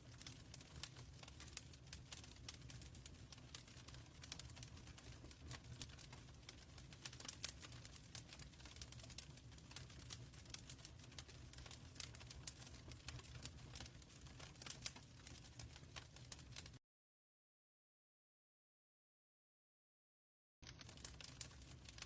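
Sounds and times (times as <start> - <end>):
fire crackling and popping: 0.0 - 16.8, 20.6 - 22.0
low steady fire rumble: 0.0 - 16.8, 20.6 - 22.0.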